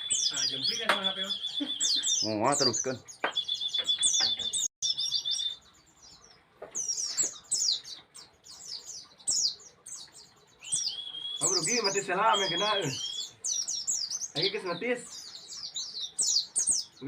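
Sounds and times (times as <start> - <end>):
bird chirping: 0.0 - 17.0
high bird trill: 0.0 - 17.0.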